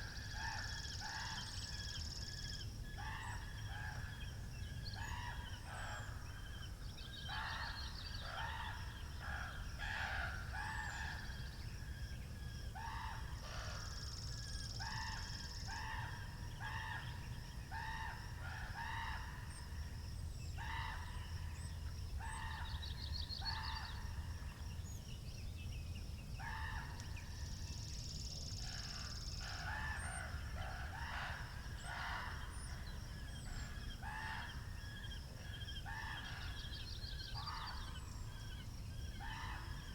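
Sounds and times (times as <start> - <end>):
low rumble of wind: 0.0 - 39.9.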